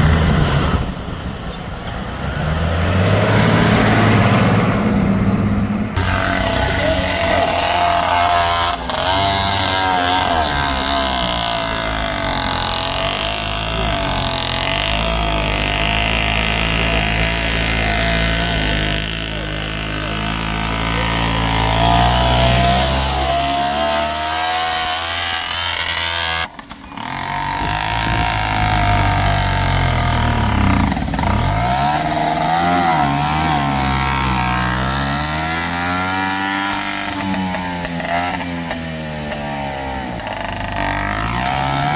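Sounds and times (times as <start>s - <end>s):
diesel engines revving: 0.0s - 41.9s.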